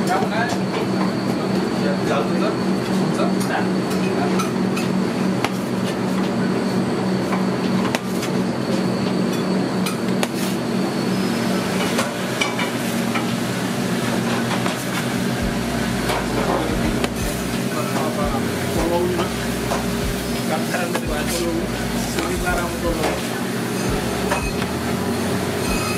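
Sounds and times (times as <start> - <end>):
kitchen hum: 0.0 - 25.9.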